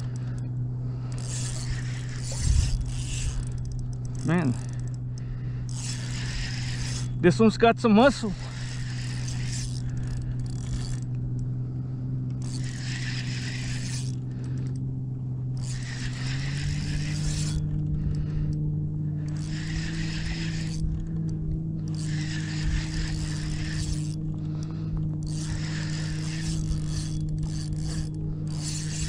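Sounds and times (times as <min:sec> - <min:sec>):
fishing reel being cranked: 0:00.0 - 0:29.0
steady low hum: 0:00.0 - 0:29.0.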